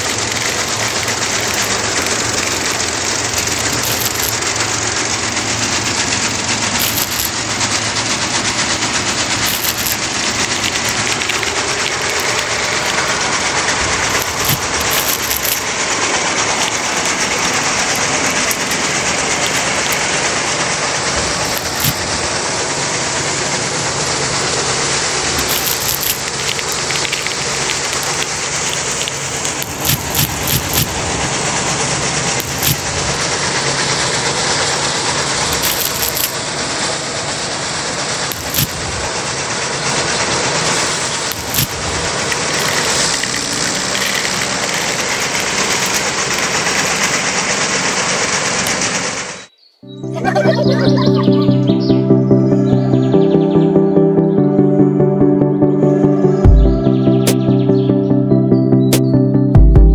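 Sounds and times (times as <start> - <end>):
thresher drum rattling: 0.0 - 49.4
low motor hum: 0.0 - 58.8.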